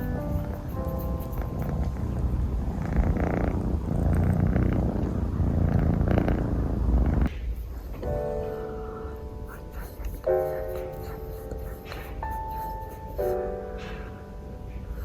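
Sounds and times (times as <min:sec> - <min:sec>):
kitten purring: 0:00.0 - 0:14.1.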